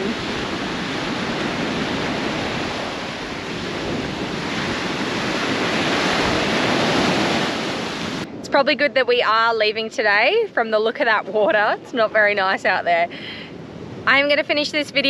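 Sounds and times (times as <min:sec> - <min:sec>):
ocean surf breaking: 0:00.0 - 0:15.0
steady wind: 0:00.0 - 0:15.0.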